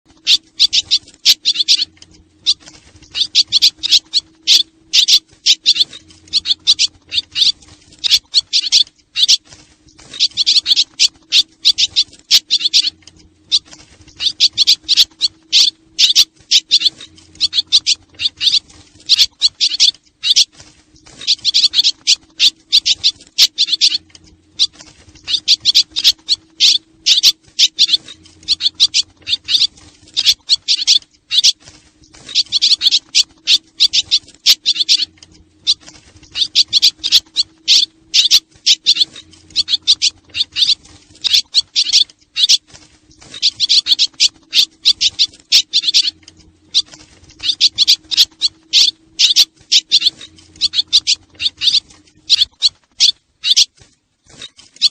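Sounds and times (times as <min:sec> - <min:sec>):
faint low hum: 0:00.1 - 0:54.9
swallows twittering: 0:00.1 - 0:54.9.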